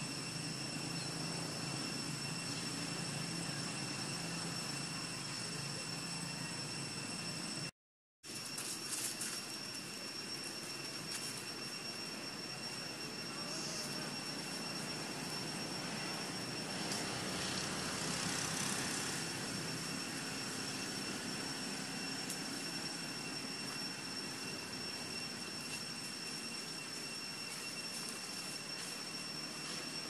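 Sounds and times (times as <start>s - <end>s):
thin high whine: 0.0s - 7.7s, 8.3s - 30.0s.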